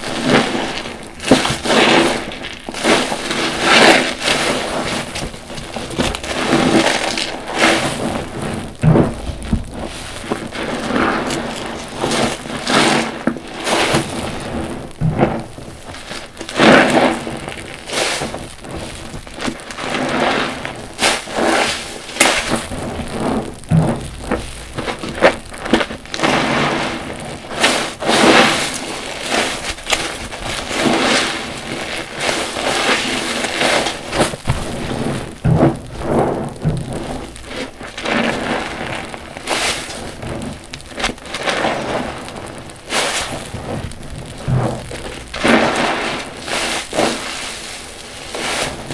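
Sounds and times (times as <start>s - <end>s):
suds crackling: 0.0s - 48.9s
sponge squelching in water: 0.2s - 48.9s.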